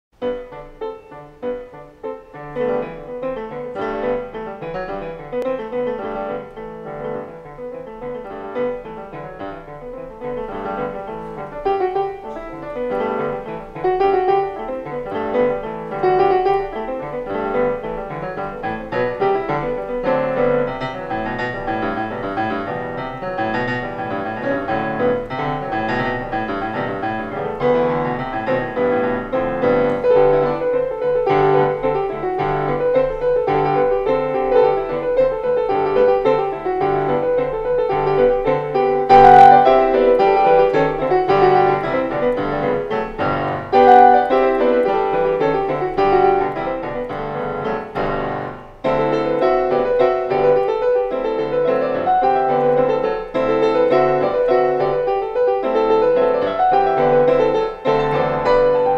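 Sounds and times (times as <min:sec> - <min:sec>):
piano music: 0:00.2 - 0:58.9.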